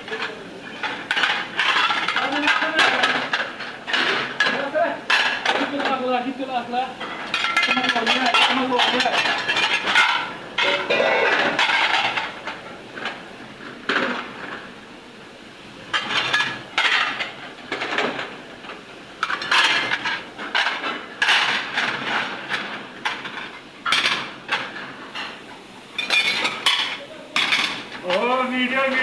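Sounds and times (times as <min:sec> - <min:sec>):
plates and cutlery clattering: 0:00.1 - 0:06.1, 0:07.0 - 0:13.2, 0:15.9 - 0:28.3.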